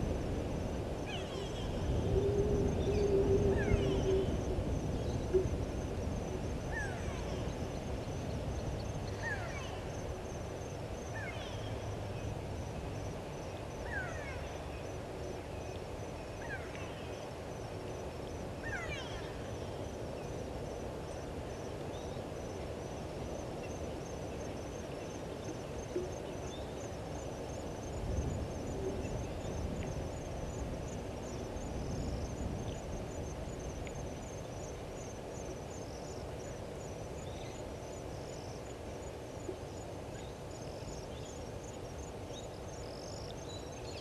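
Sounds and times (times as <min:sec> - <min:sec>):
insect chirping: 0:00.0 - 0:44.0.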